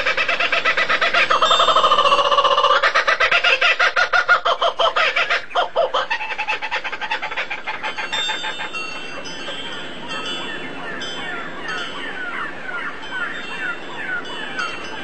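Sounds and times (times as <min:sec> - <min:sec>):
bird chattering calls: 0:00.0 - 0:14.3.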